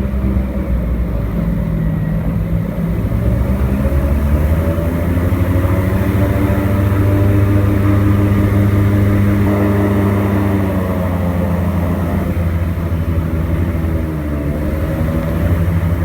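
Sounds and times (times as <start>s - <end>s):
airboat engine and propeller: 0.0s - 16.0s.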